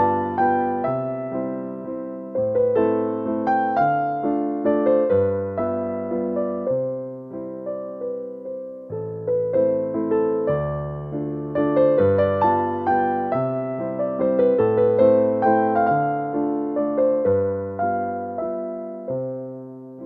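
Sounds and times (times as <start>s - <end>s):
gentle electric piano melody: 0.0s - 20.0s.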